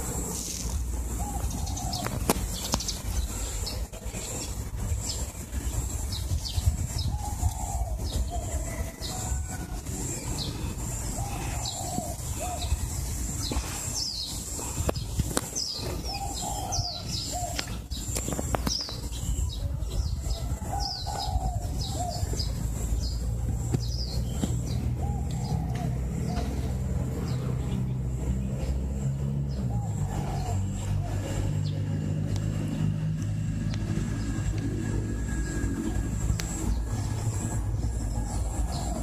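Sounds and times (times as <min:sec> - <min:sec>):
birds chirping: 0:00.0 - 0:39.0
birds warbling: 0:00.0 - 0:39.0
high-pitched whine: 0:00.0 - 0:39.0.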